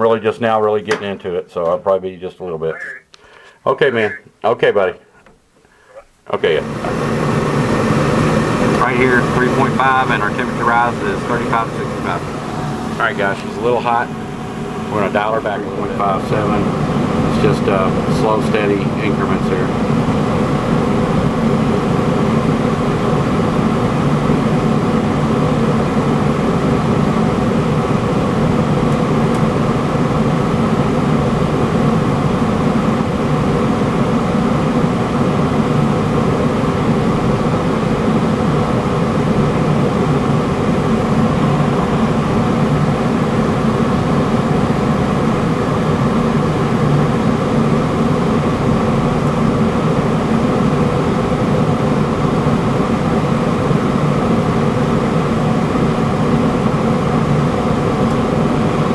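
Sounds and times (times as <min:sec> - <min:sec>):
gas furnace burners rushing hum: 0:00.0 - 0:58.9.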